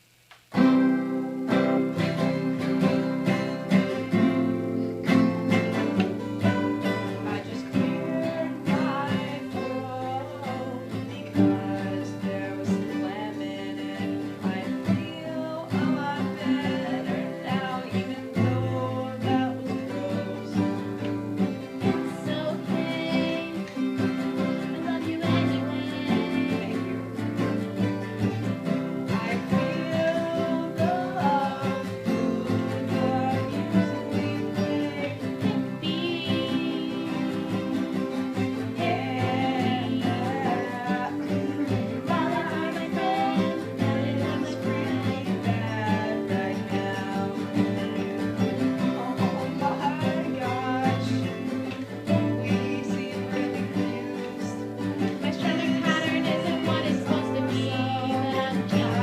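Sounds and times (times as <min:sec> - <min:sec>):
twangy acoustic guitar: 0:00.0 - 0:59.0.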